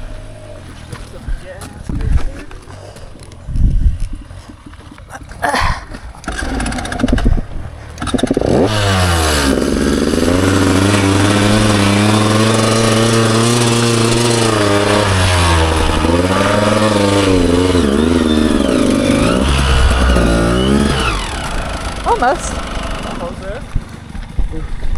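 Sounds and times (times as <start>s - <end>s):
dirt bike engine revving: 0.0s - 1.6s, 5.0s - 24.9s.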